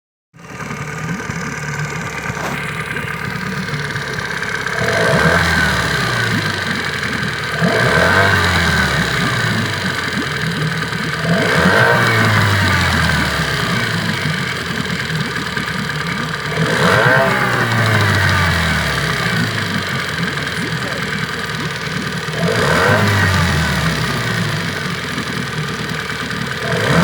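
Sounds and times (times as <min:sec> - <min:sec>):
extraneous motor noise: 0:00.4 - 0:27.0
outboard motor running and revving: 0:00.4 - 0:27.0.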